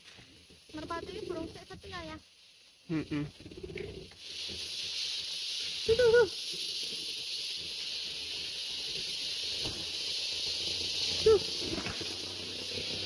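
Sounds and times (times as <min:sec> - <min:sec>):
high-pitched background hiss: 0:00.0 - 0:13.0.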